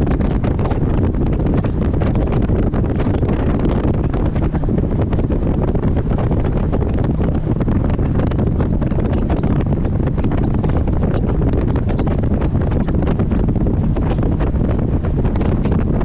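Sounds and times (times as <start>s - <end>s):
boat moving on water: 0.0s - 16.0s
wind buffeting microphone: 0.0s - 16.0s.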